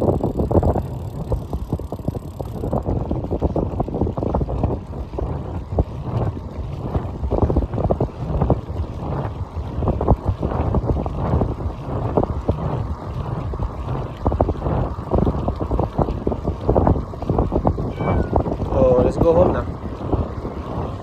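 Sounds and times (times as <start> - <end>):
low rumble of bike ride: 0.0 - 21.0
wind buffeting microphone: 0.0 - 21.0.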